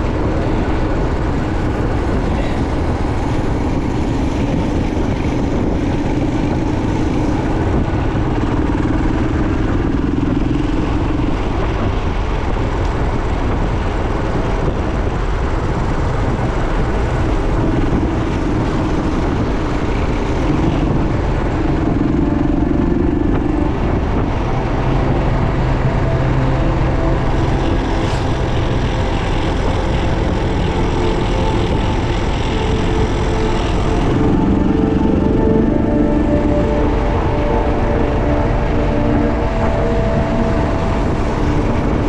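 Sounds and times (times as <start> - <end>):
vehicle engines humming: 0.0 - 42.0.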